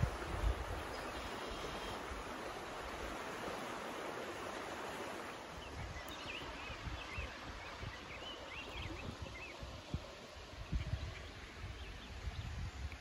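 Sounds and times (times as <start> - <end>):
river water rushing: 0.0 - 10.6.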